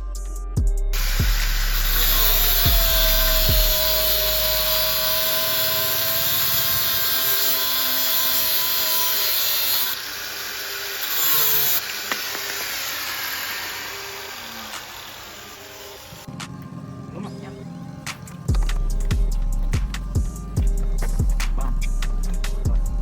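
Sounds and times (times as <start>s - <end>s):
electric power tool whirring: 1.0s - 16.8s, 17.9s - 23.0s.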